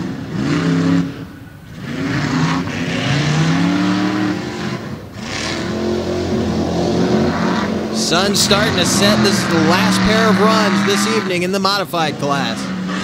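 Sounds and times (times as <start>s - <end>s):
truck engines revving hard: 0.0s - 13.0s.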